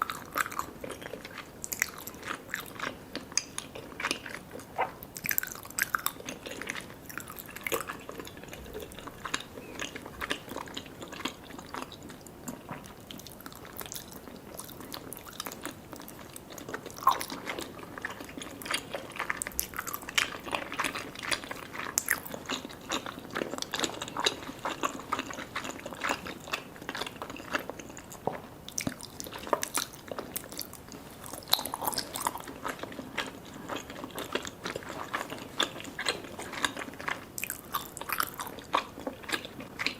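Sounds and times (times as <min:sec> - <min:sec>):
chewing sticky desserts: 0:00.0 - 0:39.9.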